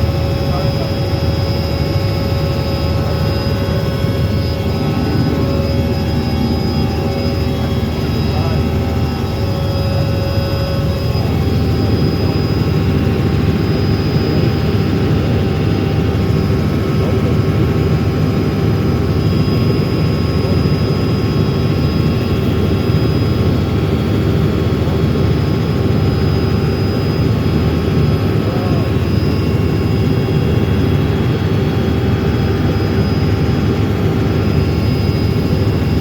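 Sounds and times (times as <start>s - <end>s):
helicopter drone: 0.0s - 36.0s.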